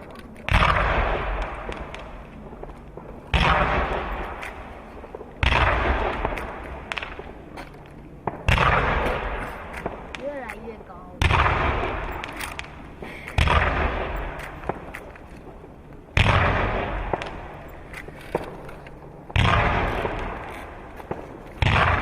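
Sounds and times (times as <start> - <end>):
fireworks booms: 0.0 - 22.0.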